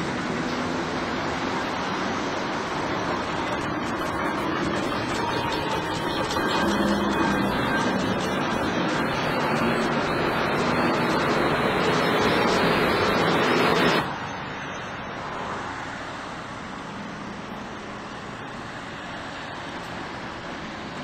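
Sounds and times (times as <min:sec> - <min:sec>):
steady road hum: 0:00.0 - 0:21.0.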